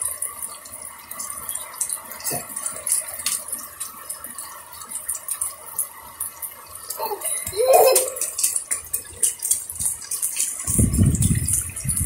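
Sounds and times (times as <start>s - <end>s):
rain on concrete: 0.0s - 12.0s.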